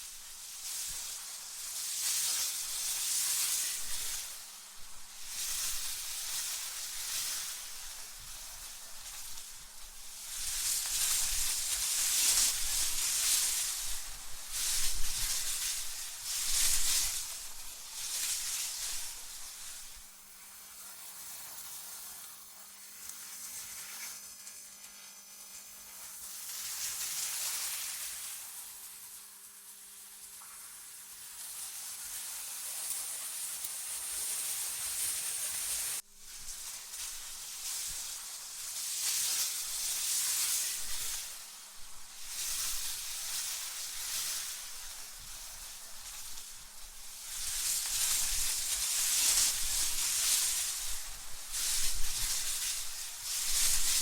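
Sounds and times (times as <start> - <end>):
synthetic wind hiss: 0.0 - 54.0.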